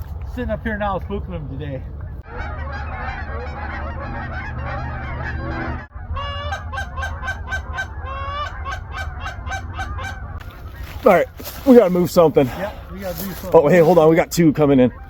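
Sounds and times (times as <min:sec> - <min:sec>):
steady low rumble: 0:00.0 - 0:13.7
geese honking: 0:00.4 - 0:15.0.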